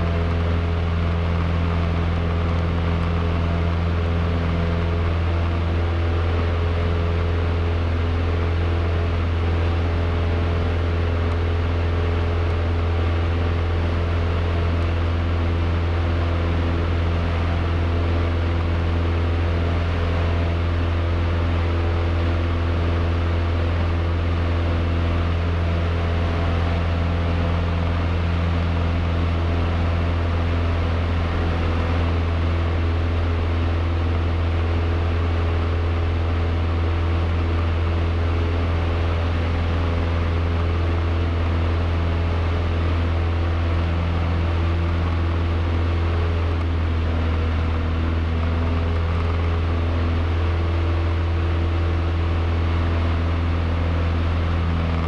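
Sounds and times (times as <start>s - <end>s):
airplane engine droning in cabin: 0.0s - 55.0s.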